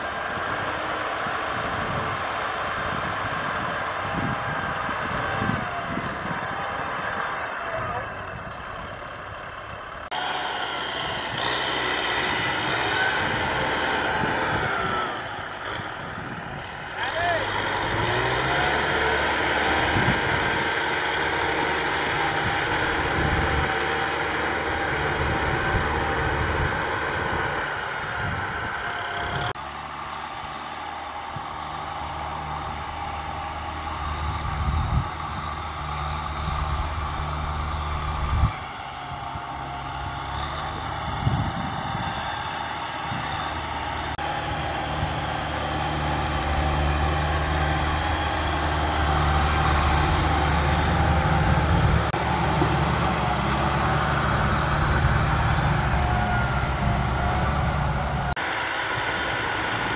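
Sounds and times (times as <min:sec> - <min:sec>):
tractor diesel engines running: 0:00.0 - 0:59.9.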